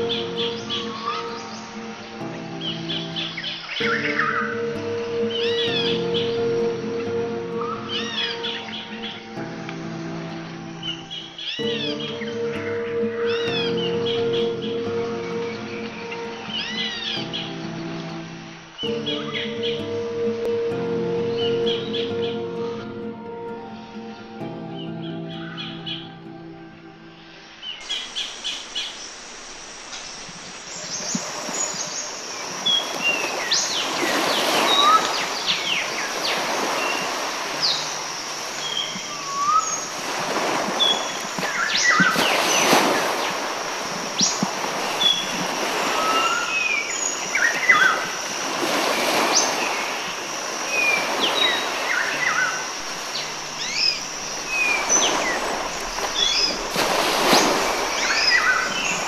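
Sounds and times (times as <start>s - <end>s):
birds chirping and whistling: 0.0s - 26.6s, 29.9s - 59.0s
rushing wash: 0.0s - 59.0s.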